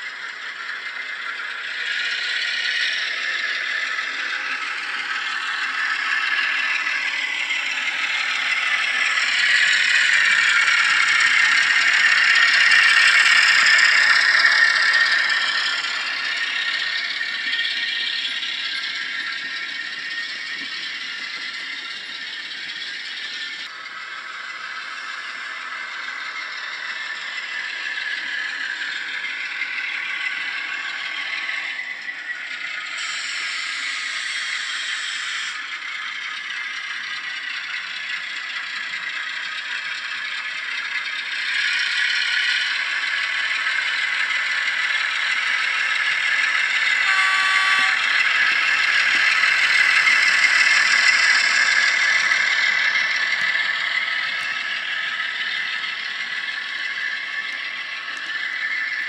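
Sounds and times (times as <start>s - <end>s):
diesel engine sound from small speaker: 0.0s - 59.0s
model train wheels clattering: 0.0s - 59.0s.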